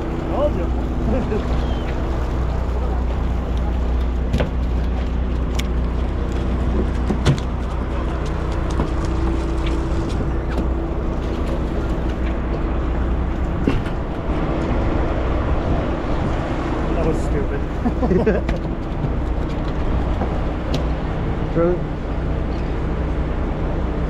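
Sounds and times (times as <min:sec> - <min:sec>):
boat engine drone: 0:00.0 - 0:24.0.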